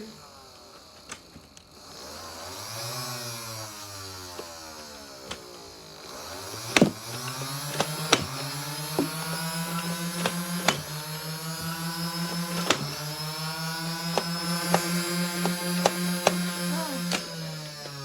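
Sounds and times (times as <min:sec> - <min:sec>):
electric motor humming: 0:00.0 - 0:18.0.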